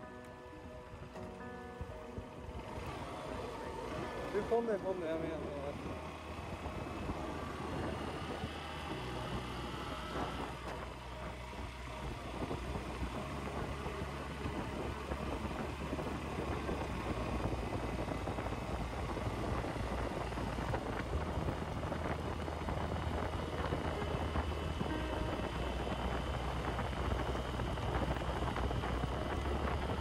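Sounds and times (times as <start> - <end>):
wind noise on microphone: 0.6 - 30.0
motorcycle engine running: 0.9 - 30.0.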